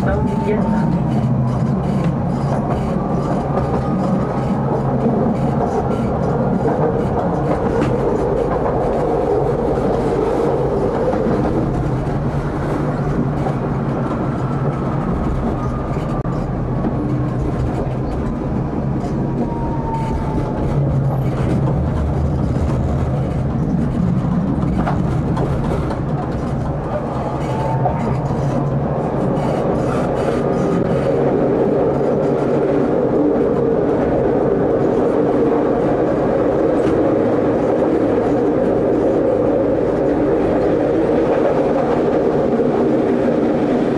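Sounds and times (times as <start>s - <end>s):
tram wheel and rail rumble: 0.0s - 43.9s.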